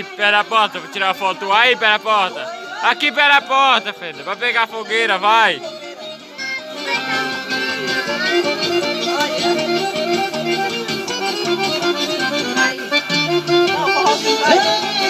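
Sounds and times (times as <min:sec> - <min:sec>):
accordion melody: 0:00.0 - 0:15.0.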